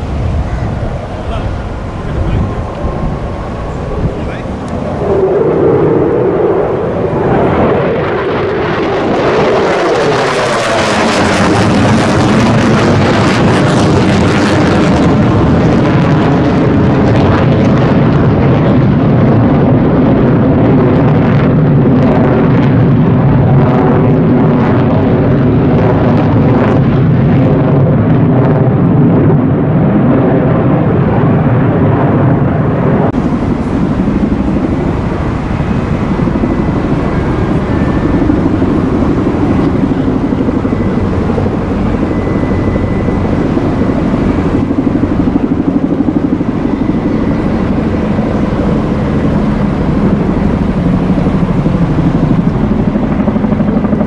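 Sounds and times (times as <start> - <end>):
low-flying military aircraft engine: 0.0 - 54.0.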